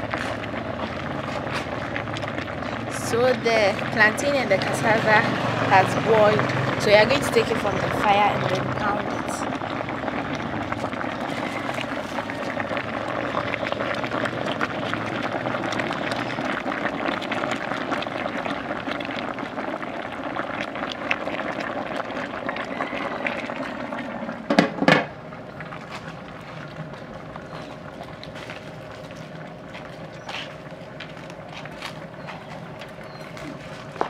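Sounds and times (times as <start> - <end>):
pot boiling and bubbling: 0.0 - 34.0.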